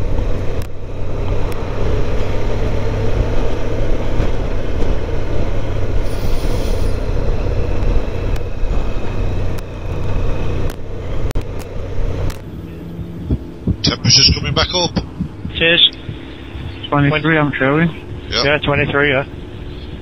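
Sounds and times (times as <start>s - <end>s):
motorcycle engine rumble: 0.0s - 20.0s
rushing wind noise: 0.0s - 20.0s.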